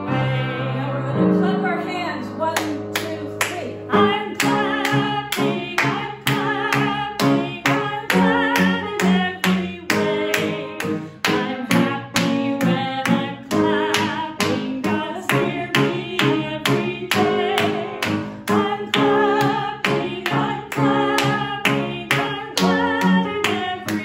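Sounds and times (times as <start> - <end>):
piano accompaniment: 0.0 - 24.0
woman singing upbeat song: 0.2 - 24.0
hand claps on the beat: 2.6 - 24.0.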